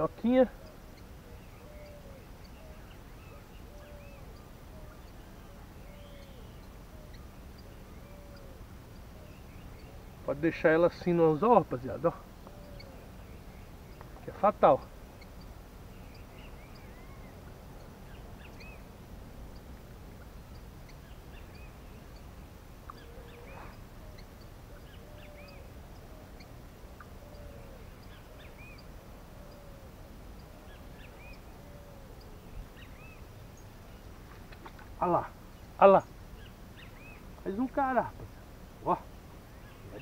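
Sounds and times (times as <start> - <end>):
birds chirping: 0.0 - 40.0
low background noise: 0.0 - 40.0
lower bird call: 0.0 - 40.0.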